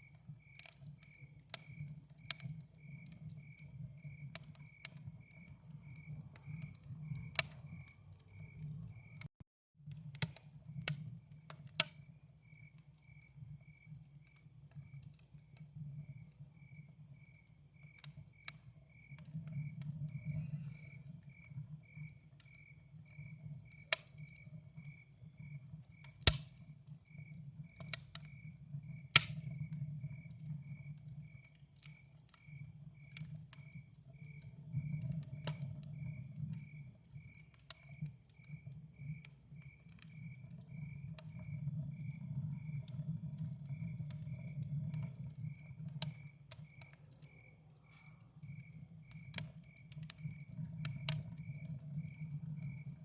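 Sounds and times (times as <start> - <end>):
cricket chirping: 0.0 - 9.3, 11.8 - 53.0
campfire crackling and popping: 0.0 - 53.0.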